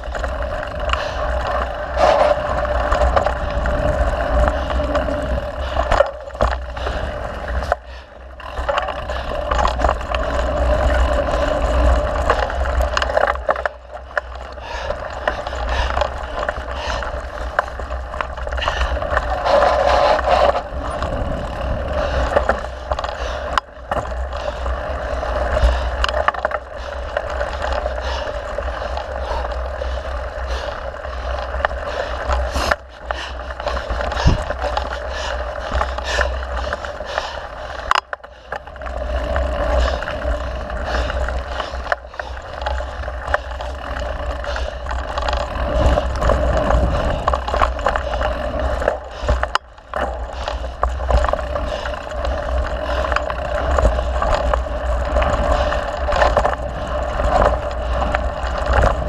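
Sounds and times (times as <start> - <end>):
bike rattling over bumps: 0.0 - 59.0
bike tyres on dirt trail: 0.0 - 59.0.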